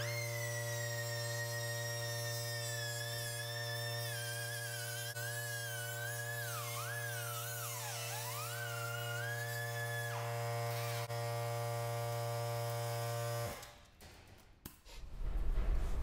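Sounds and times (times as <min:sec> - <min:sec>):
cutting tool whine: 0:00.0 - 0:13.6.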